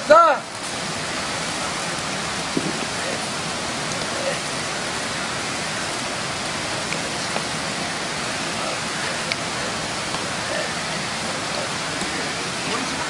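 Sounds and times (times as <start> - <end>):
mountain stream flowing over rocks: 0.0 - 13.0.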